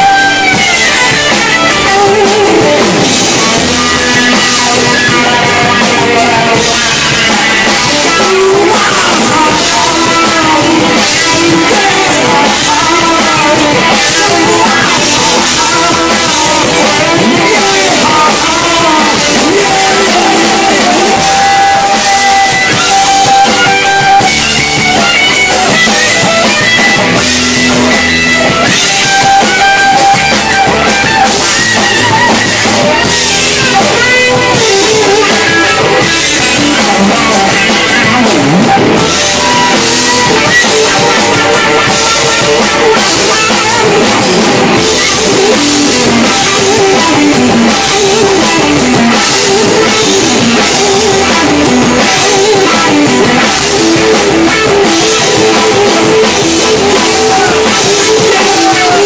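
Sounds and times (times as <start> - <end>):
distorted electric guitar: 0.0 - 59.0
drum kit: 0.0 - 59.0
person singing lead vocal: 0.0 - 59.0.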